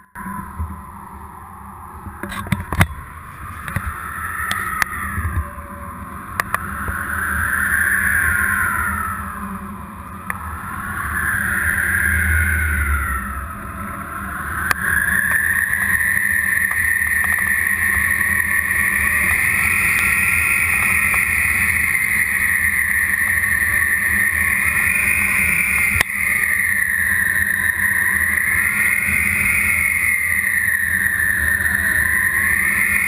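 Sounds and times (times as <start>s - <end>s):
wavering whistle: 0.0s - 33.0s
wind rushing on microphone: 0.1s - 33.0s.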